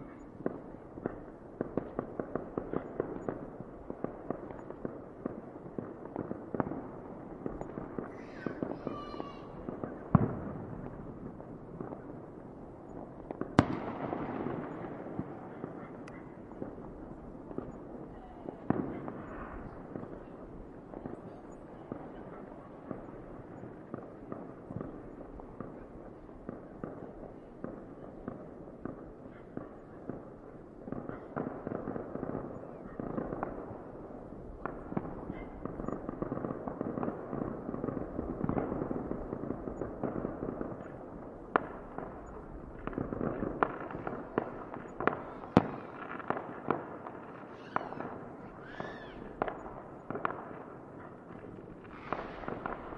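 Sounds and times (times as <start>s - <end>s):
fireworks crackling and popping: 0.0s - 52.9s
loud sharp fireworks reports: 0.0s - 52.9s.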